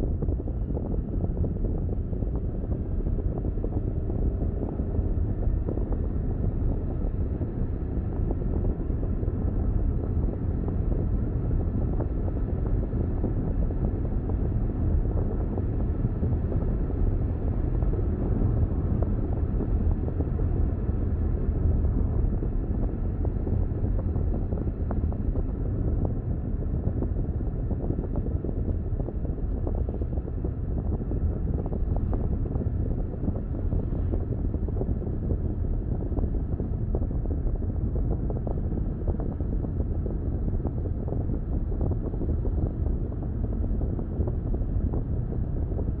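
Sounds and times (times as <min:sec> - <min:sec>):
car tyre and road noise: 0:00.0 - 0:46.0.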